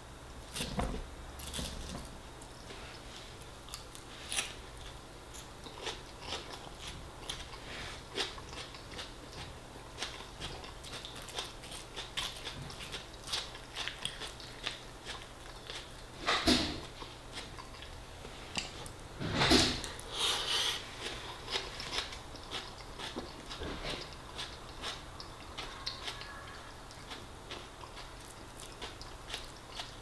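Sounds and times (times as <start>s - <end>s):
close-up chewing with crunches: 0.5s - 19.0s, 19.8s - 30.0s.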